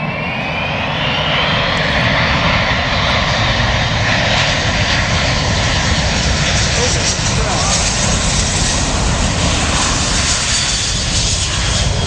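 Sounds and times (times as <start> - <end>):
airplane engine roar: 0.0 - 12.0
rising engine whine: 0.0 - 12.0.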